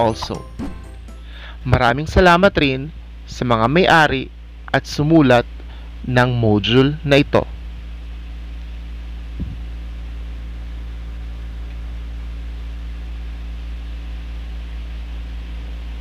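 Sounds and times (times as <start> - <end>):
low electrical hum with hiss: 0.0 - 16.0.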